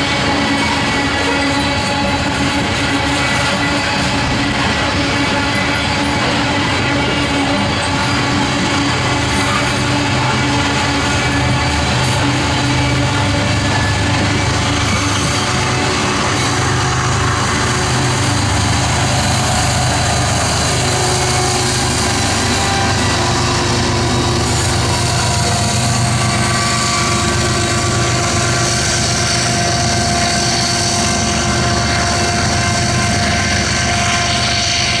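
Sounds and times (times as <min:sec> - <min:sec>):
diesel locomotive engine: 0:00.0 - 0:35.0
freight train rumbling past: 0:00.0 - 0:35.0
high tones from train wheels: 0:00.0 - 0:35.0.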